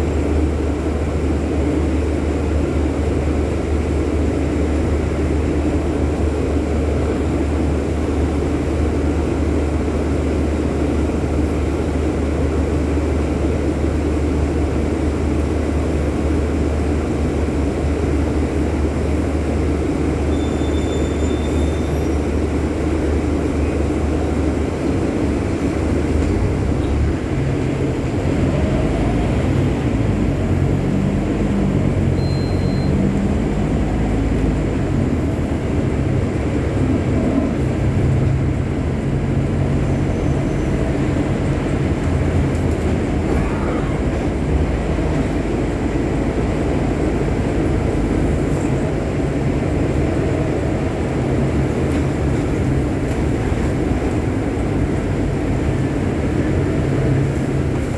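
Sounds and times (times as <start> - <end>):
bus diesel engine running: 0.0 - 57.9
road noise rumble: 0.0 - 57.9.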